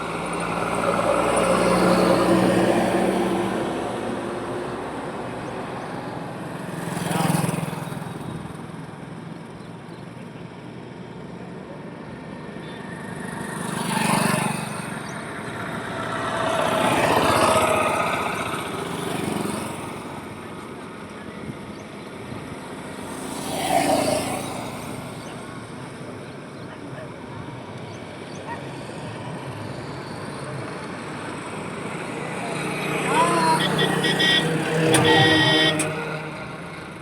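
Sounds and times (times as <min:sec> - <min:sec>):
road noise: 0:00.0 - 0:37.0
vehicles passing: 0:00.0 - 0:37.0.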